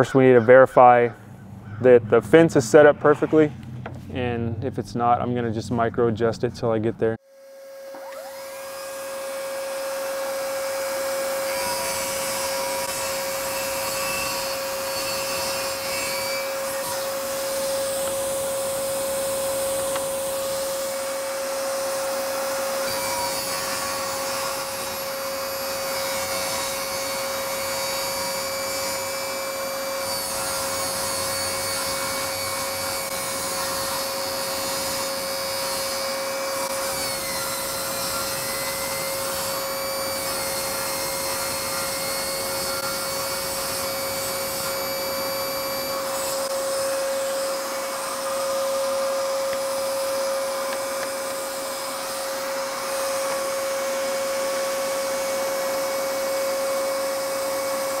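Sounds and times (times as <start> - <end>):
saw blade cutting board: 7.2 - 56.7
table saw whining: 7.2 - 58.0.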